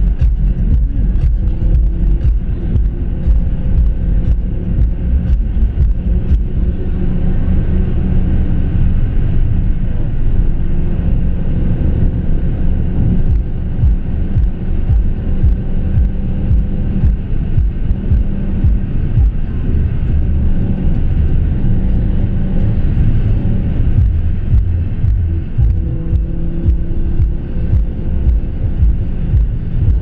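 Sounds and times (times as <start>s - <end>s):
engine drone inside car: 0.0s - 30.0s
road rumble: 0.0s - 30.0s.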